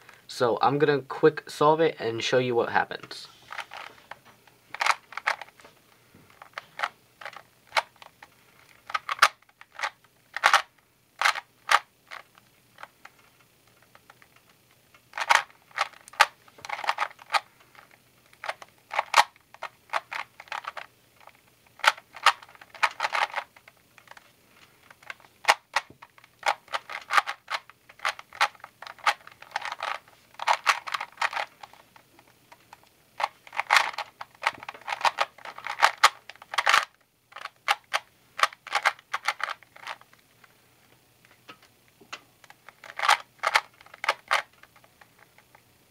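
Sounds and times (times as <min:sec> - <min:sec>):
puzzle cube plastic clicking: 0:03.5 - 0:04.1, 0:04.7 - 0:05.6, 0:06.3 - 0:40.2, 0:41.4 - 0:45.6.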